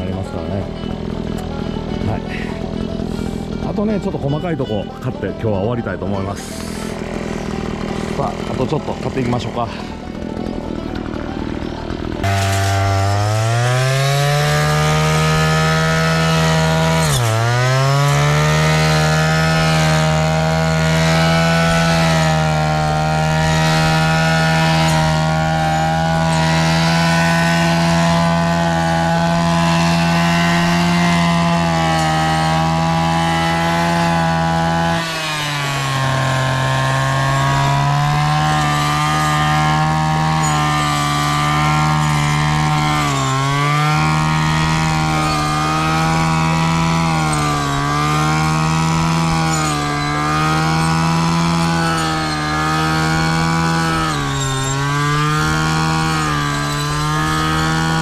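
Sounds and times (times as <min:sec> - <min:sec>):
brush cutter engine revving: 0:00.0 - 0:58.0.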